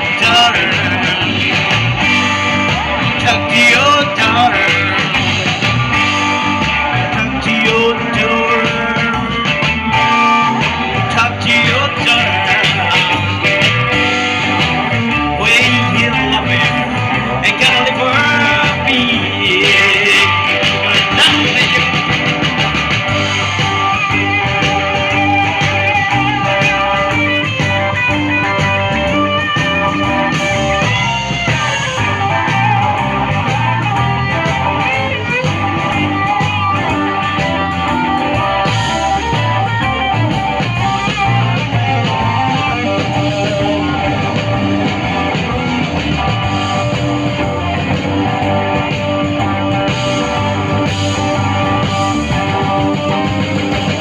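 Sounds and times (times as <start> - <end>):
lead guitar: 0.0 - 54.0
live blues-rock band playing: 0.0 - 54.0.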